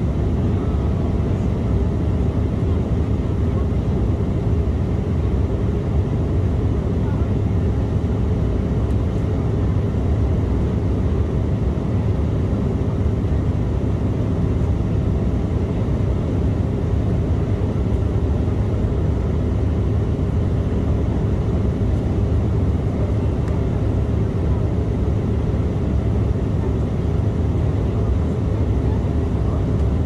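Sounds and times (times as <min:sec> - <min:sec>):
jet cabin rumble: 0:00.0 - 0:30.0.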